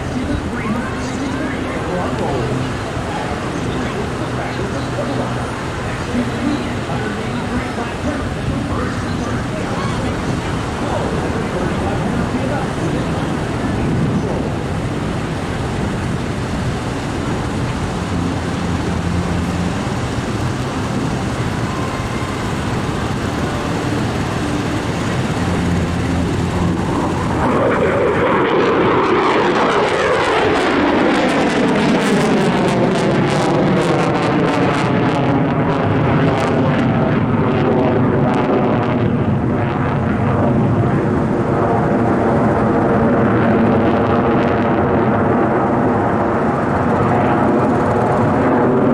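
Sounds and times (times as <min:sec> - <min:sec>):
airplane flying past overhead: 0:00.0 - 0:48.9.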